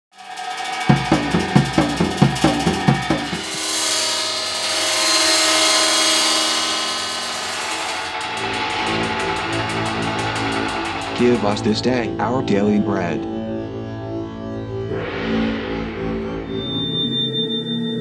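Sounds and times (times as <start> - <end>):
noisy wash with held tones: 0.2 - 18.0
low pitched electronic pulses: 0.9 - 18.0.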